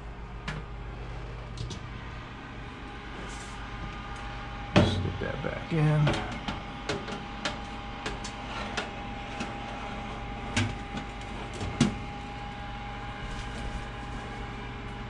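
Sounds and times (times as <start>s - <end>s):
air fryer fan hum: 0.0s - 15.0s
thin whine: 0.0s - 15.0s.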